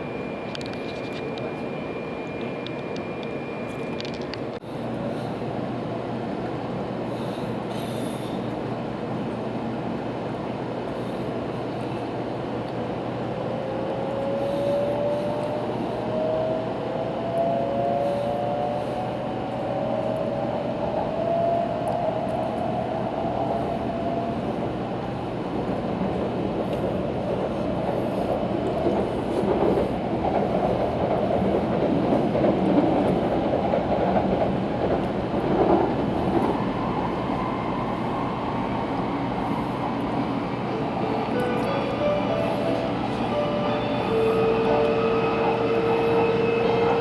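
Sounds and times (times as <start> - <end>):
train rushing rumble: 0.0 - 47.0.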